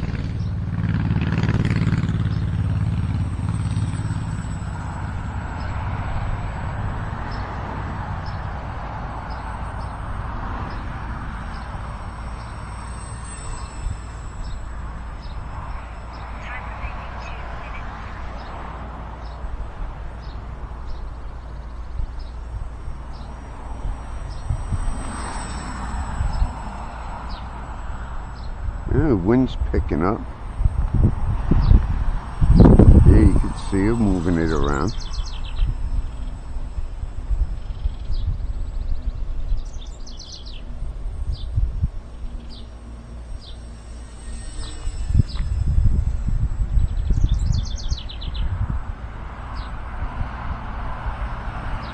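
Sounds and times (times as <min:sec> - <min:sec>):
bird chirping: 0:00.0 - 0:51.9
wind buffeting microphone: 0:00.0 - 0:51.9.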